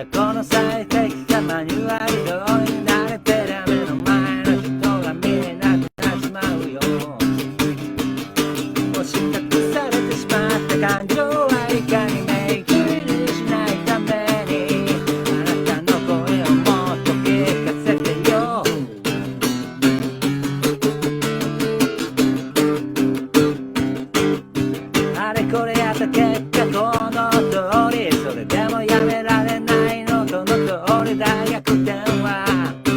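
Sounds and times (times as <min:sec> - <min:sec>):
person singing: 0:00.0 - 0:07.8, 0:08.5 - 0:19.2, 0:24.9 - 0:32.9
guitar strumming chords: 0:00.0 - 0:32.9.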